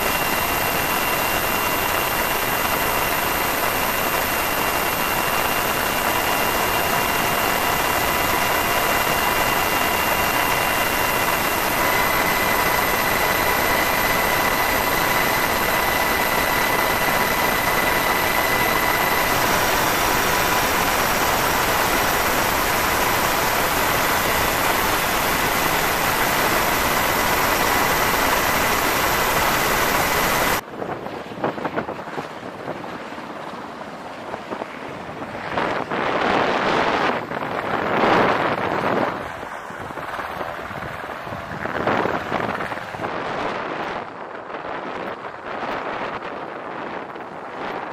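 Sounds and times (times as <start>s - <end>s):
helicopter engine and rotor: 0.0s - 47.9s
wind noise: 0.0s - 47.9s.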